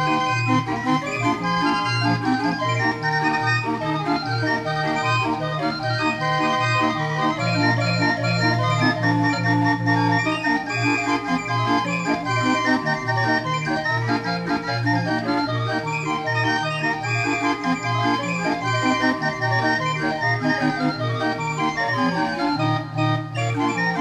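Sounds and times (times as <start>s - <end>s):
barrel organ dance tune: 0.0s - 24.0s.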